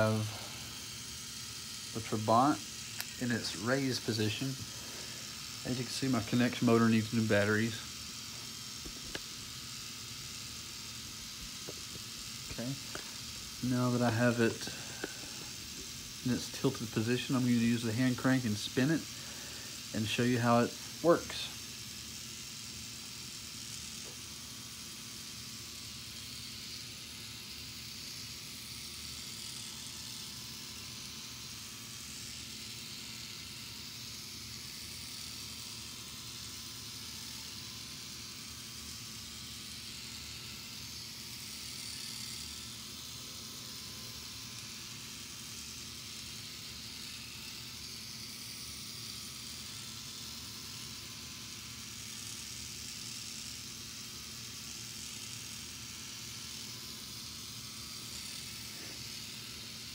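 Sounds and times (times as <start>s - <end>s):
whir and hiss of plastic gears: 0.0s - 59.9s.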